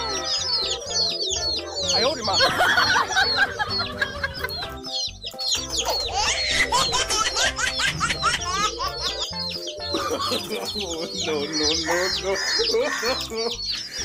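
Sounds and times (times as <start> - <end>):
background music with low notes: 0.0 - 14.0
young chicks peeping: 0.0 - 14.0.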